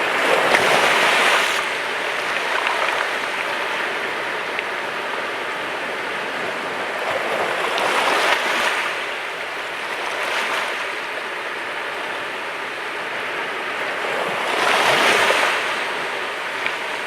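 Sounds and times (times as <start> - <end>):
sea waves washing ashore: 0.0 - 17.0.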